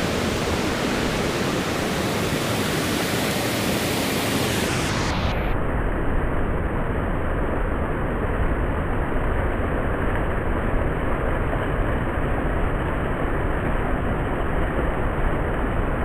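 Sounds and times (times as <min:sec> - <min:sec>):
waterfall pouring over rocks: 0:00.0 - 0:05.3, 0:06.7 - 0:16.0.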